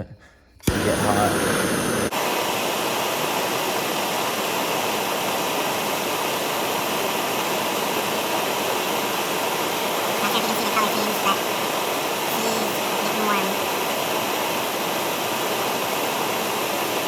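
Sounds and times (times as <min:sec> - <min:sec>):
heating tool hissing: 0:00.6 - 0:17.0.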